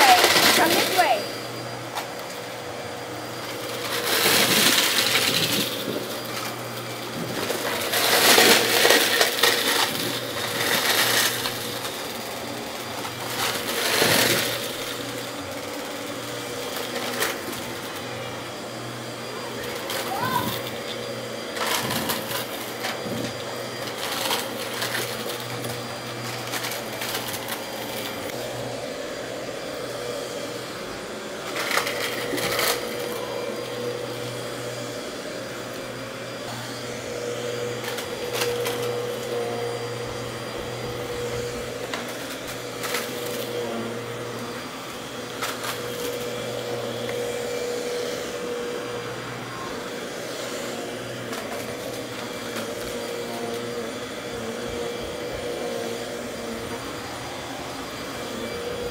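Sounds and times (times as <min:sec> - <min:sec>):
vacuum cleaner humming: 0:00.0 - 0:58.9.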